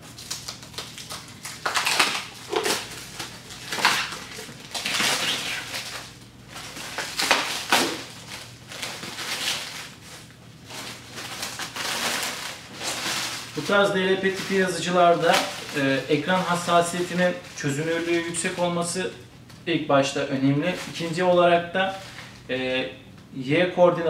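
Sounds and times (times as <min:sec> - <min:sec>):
plastic film crinkling: 0:00.0 - 0:19.6, 0:20.6 - 0:22.5.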